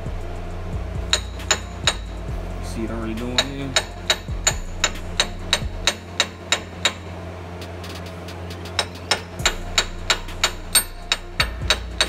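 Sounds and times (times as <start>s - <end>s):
hammer striking metal: 0.9s - 12.0s.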